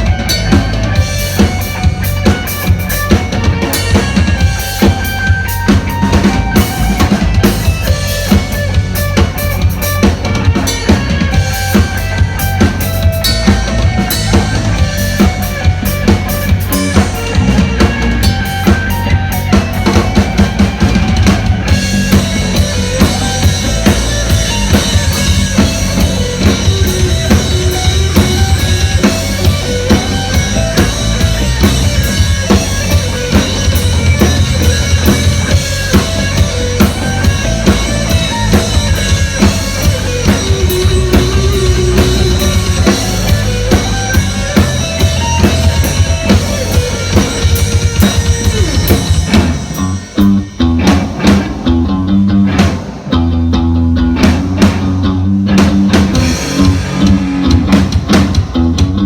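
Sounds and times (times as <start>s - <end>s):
live music with drum beat: 0.0s - 59.0s.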